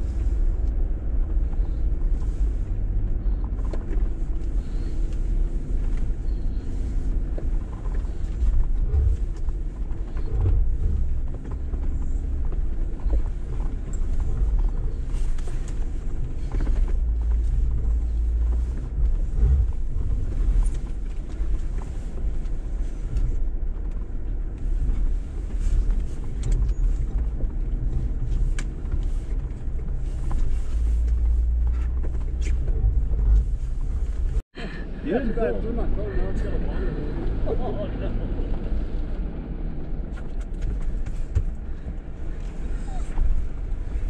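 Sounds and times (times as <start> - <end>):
low engine rumble: 0.0 - 44.0.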